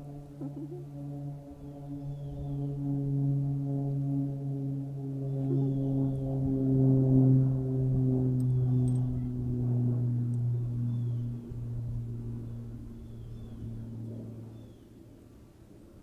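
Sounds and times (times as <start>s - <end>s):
low droning tone: 0.0s - 16.0s.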